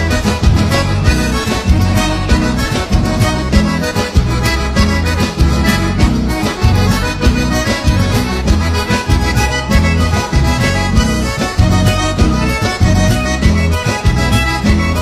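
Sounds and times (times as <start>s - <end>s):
accordion dance-band music: 0.0s - 15.0s
steady bass beat: 0.0s - 15.0s.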